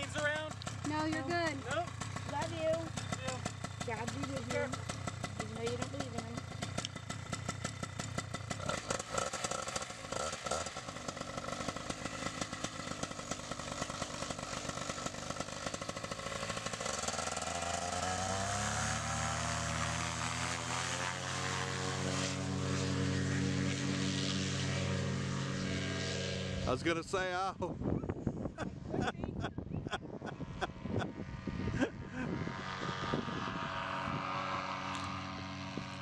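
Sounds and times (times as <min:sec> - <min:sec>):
paramotor engine and propeller: 0:00.0 - 0:36.0.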